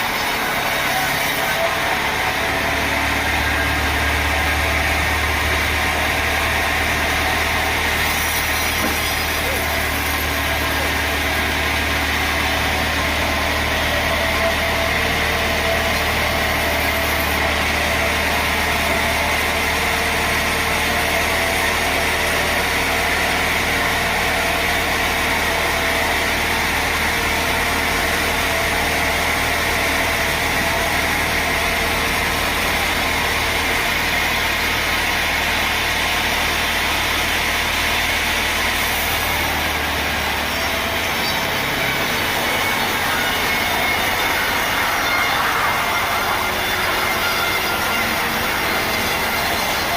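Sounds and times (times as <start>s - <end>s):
sawmill machinery humming: 0.0s - 49.9s.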